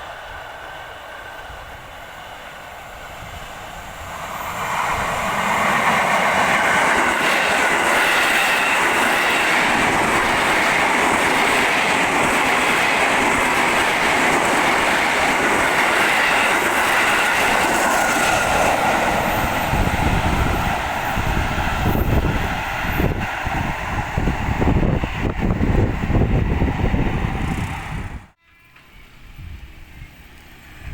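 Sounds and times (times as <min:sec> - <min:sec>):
train passing: 0:00.0 - 0:30.9.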